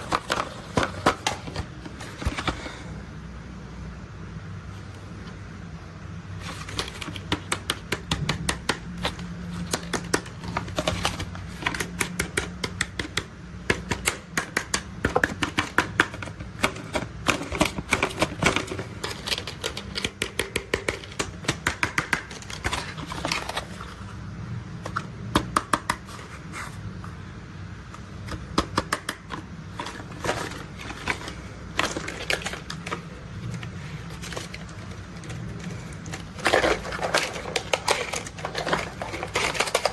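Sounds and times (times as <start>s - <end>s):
plastic toys clicking and rattling: 0.0s - 2.6s, 6.4s - 24.1s, 28.2s - 39.9s.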